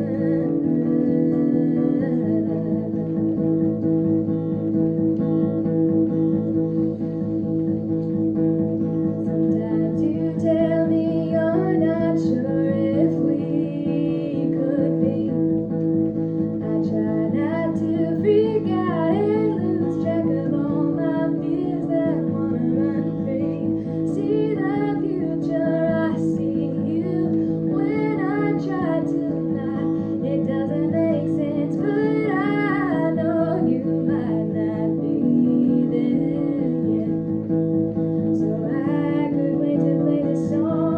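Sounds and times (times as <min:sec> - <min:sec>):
person singing: 0:00.0 - 0:03.6, 0:09.5 - 0:15.7, 0:16.6 - 0:37.4, 0:38.3 - 0:40.9
acoustic guitar strumming: 0:00.0 - 0:40.9.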